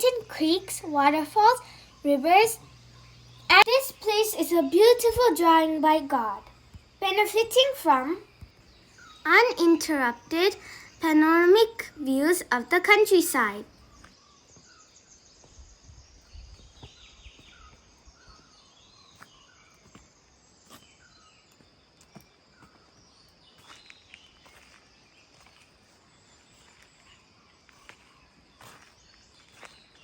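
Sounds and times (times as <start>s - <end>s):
high insect hum: 0.0s - 30.0s
small birds chirping: 0.0s - 30.0s.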